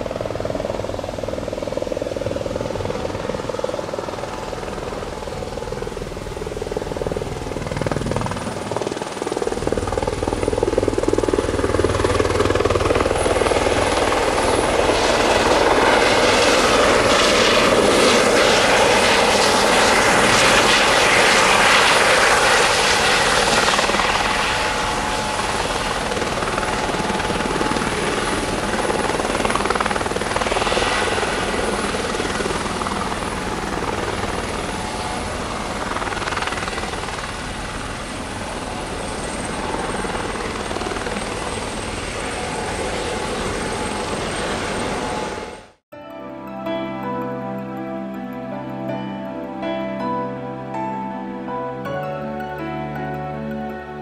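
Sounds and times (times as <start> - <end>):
helicopter rotor noise: 0.0 - 45.8
turbine high whine: 0.0 - 45.8.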